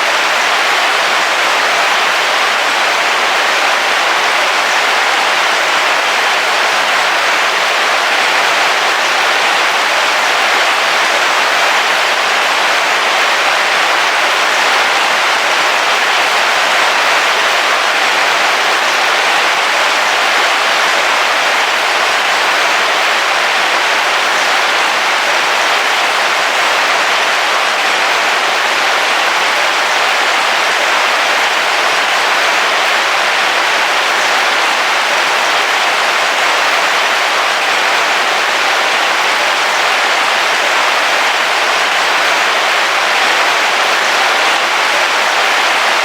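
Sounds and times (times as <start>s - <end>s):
heavy rain on a roof: 0.0s - 46.0s.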